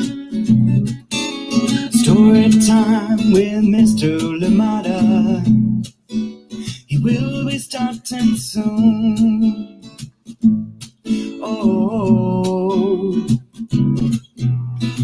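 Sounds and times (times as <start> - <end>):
acoustic guitar theme music: 0.0 - 15.0.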